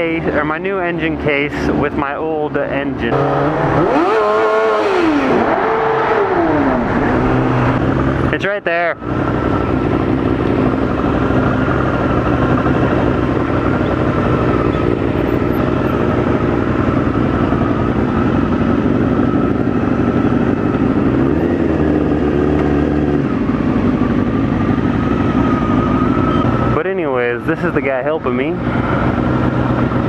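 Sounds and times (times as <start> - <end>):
road and wind noise: 0.0 - 30.0
vehicle engine running: 0.0 - 30.0.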